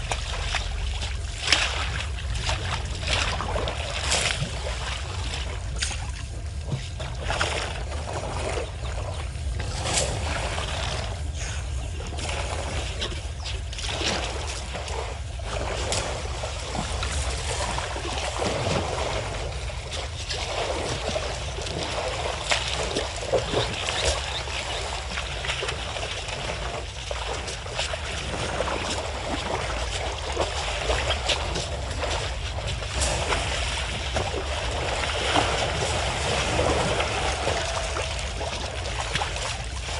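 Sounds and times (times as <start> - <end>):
elephants splashing water: 0.0 - 39.9
low background rumble: 0.0 - 39.9.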